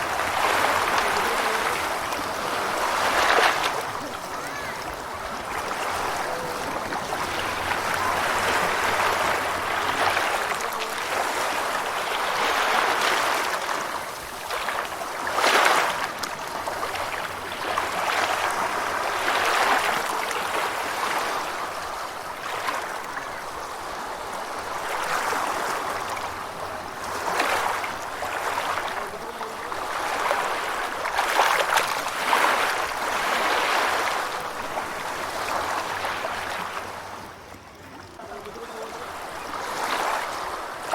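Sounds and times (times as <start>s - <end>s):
ocean waves washing in: 0.0s - 40.9s.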